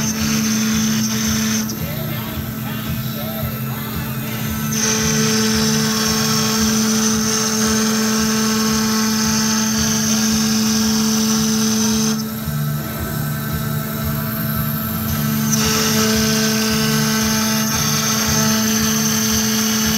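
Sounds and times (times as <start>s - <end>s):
router spindle high whine: 0.0s - 19.9s.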